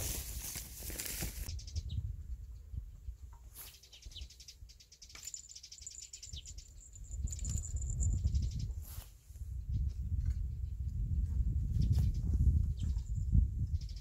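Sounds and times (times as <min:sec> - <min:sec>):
wind rumbling on microphone: 0:00.0 - 0:04.2, 0:06.3 - 0:14.0.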